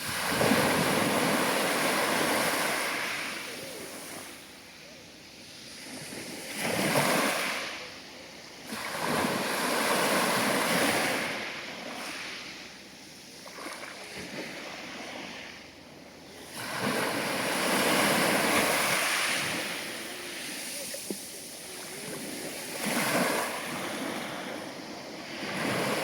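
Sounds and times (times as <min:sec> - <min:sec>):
sea waves breaking: 0:00.0 - 0:04.6, 0:05.7 - 0:12.7, 0:13.4 - 0:26.0.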